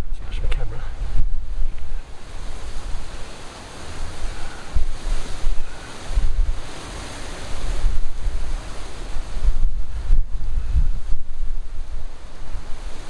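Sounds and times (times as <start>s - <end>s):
gusting wind on microphone: 0.0s - 13.0s.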